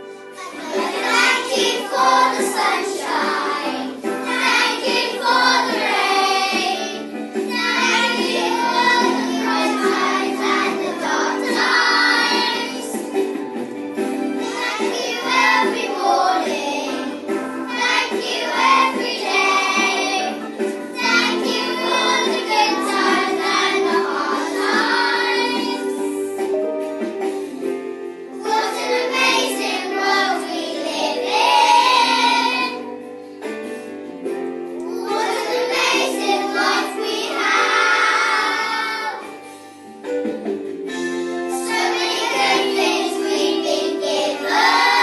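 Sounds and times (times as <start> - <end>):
children singing: 0.0 - 13.4, 14.4 - 26.5, 28.4 - 32.9, 34.8 - 39.5, 41.5 - 45.0
instrumental accompaniment: 0.0 - 45.0.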